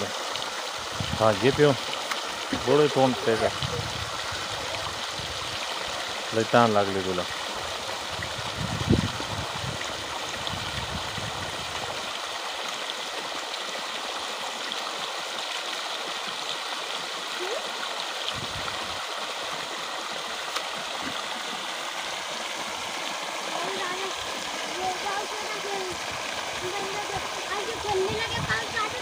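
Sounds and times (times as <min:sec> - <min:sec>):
water gushing from pipe: 0:00.0 - 0:29.0.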